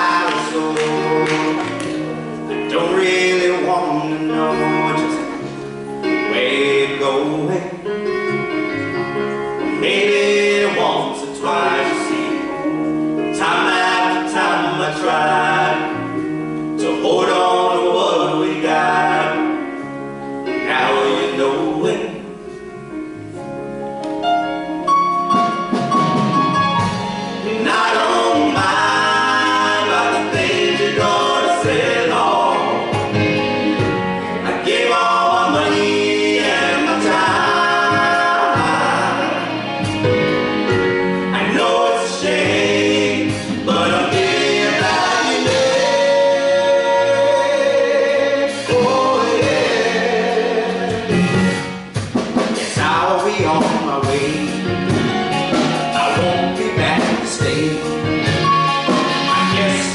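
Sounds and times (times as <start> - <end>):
male vocal group singing harmony: 0.0 - 8.0, 9.6 - 19.8, 20.5 - 22.3, 27.4 - 40.2, 41.0 - 51.8, 52.4 - 54.7, 55.5 - 58.0, 58.9 - 59.9
drums: 0.0 - 59.9
guitar: 0.0 - 59.9
keyboards: 0.0 - 59.9.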